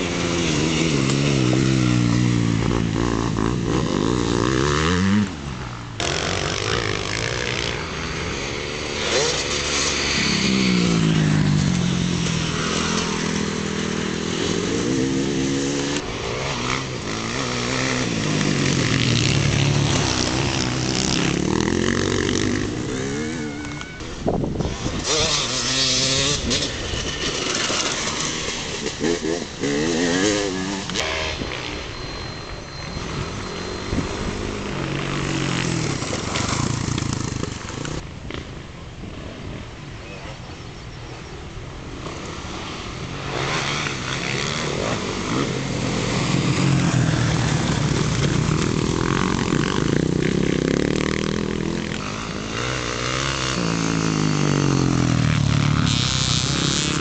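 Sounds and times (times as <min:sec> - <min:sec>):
dirt bikes revving past: 0:00.0 - 0:39.4, 0:41.0 - 0:57.0.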